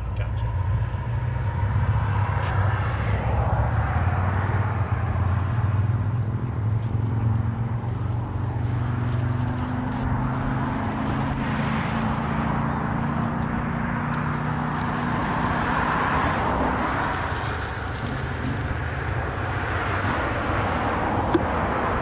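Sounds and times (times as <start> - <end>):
road traffic noise: 0.0 - 22.0
vehicle engine humming: 0.0 - 22.0.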